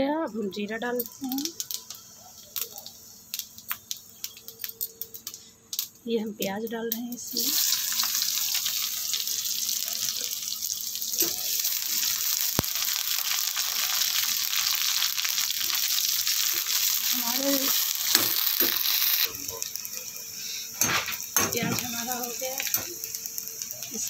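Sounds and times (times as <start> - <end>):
onions sizzling in hot oil: 0.3 - 6.0, 7.1 - 24.0.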